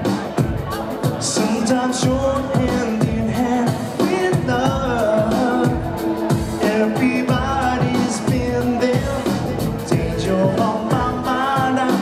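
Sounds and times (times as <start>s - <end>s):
amplified band music: 0.0s - 12.0s
man singing into a microphone: 1.0s - 12.0s.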